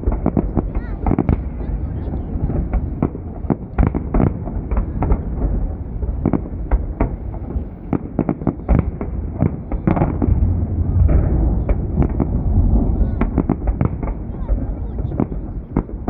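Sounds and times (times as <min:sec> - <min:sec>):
fireworks bangs: 0:00.0 - 0:16.0
low rumble of explosions: 0:00.0 - 0:16.0.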